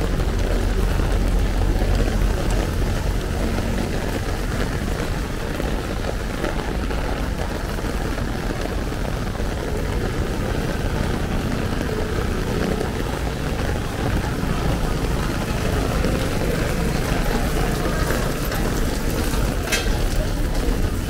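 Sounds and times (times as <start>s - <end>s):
city traffic rumble: 0.0s - 21.0s
heavy rain on an umbrella: 0.0s - 21.0s.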